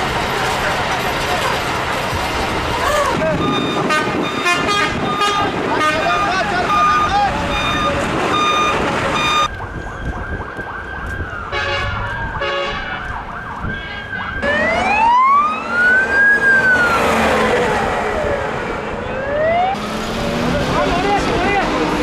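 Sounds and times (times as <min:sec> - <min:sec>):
emergency siren wailing: 0:02.6 - 0:22.0.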